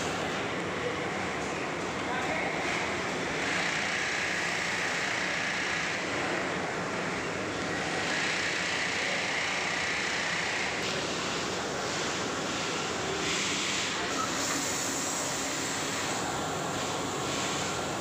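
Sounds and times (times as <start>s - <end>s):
workshop machinery droning: 0.0s - 18.0s.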